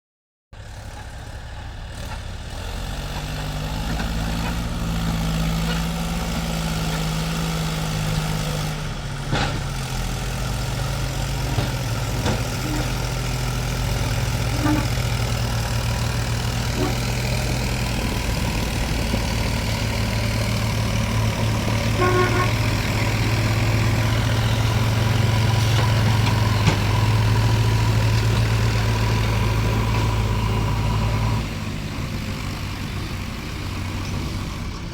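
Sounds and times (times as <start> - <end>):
diesel engine running: 0.6 - 34.9.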